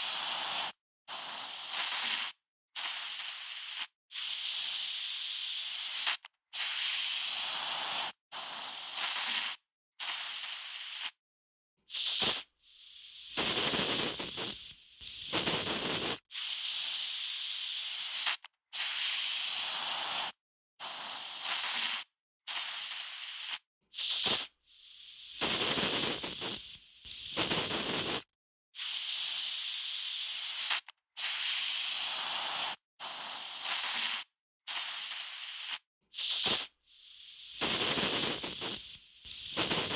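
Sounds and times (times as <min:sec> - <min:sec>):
aerosol spray can hissing: 0:00.0 - 0:11.2, 0:11.9 - 0:39.9.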